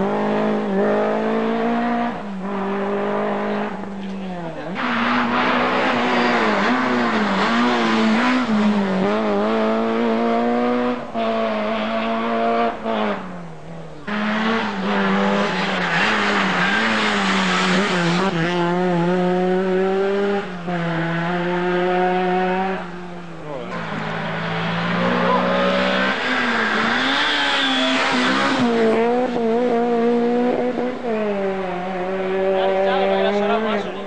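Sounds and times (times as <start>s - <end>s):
rally car engine at high revs: 0.0s - 34.0s.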